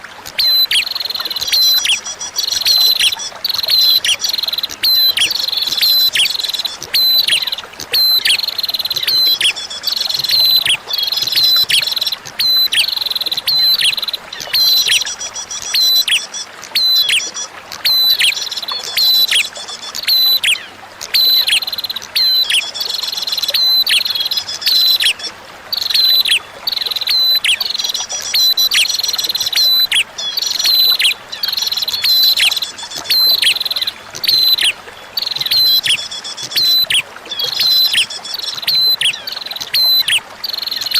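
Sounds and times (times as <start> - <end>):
faint flowing water: 0.0 - 40.9.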